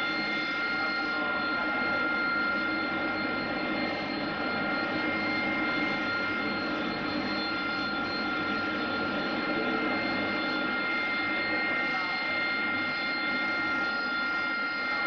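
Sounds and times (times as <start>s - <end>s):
jet engines running with whine: 0.0s - 15.0s.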